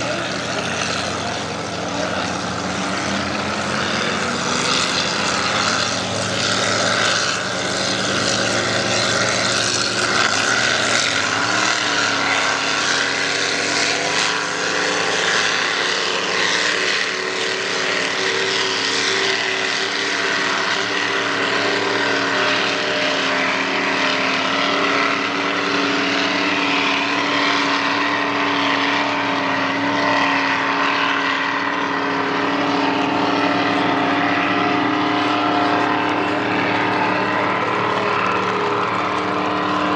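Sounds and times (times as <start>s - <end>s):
powerboat engines running: 0.0s - 39.9s.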